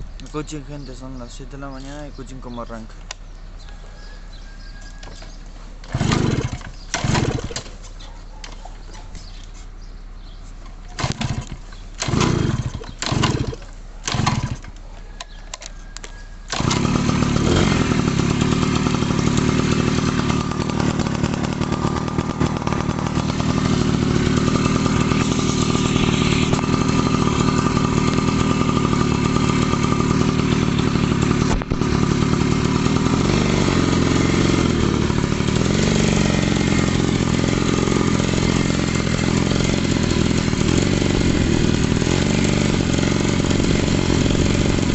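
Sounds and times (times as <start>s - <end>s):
motorcycle engine running: 3.0s - 44.9s
motorcycle engine starting attempts: 4.7s - 9.6s, 10.5s - 44.9s.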